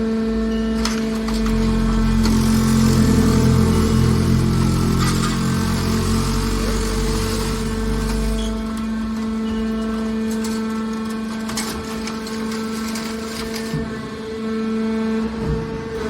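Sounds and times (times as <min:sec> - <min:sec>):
baler pump and motor hum: 0:00.0 - 0:16.0.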